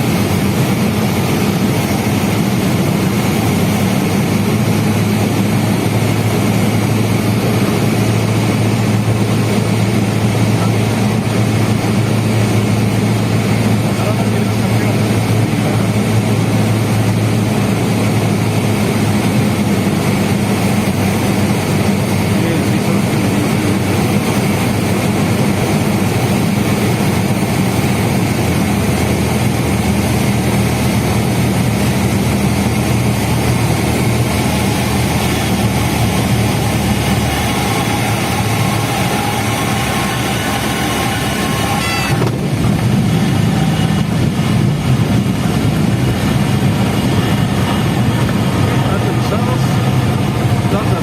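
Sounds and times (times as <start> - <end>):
airplane engine and propeller droning: 0.0 - 51.0.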